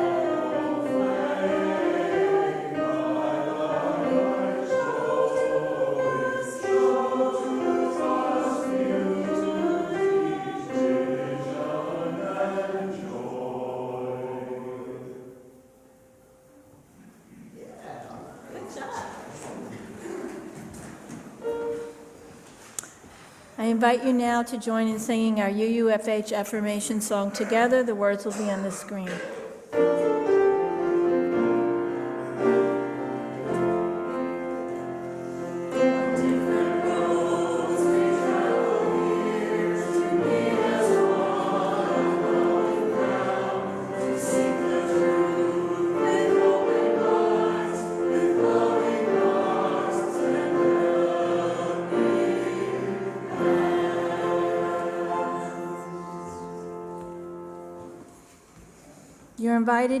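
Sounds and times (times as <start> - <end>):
congregation singing: 0.0 - 58.9.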